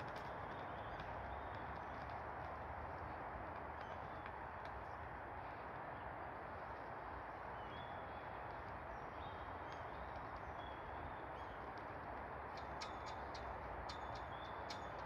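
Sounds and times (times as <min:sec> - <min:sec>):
wind noise: 0:00.0 - 0:15.0.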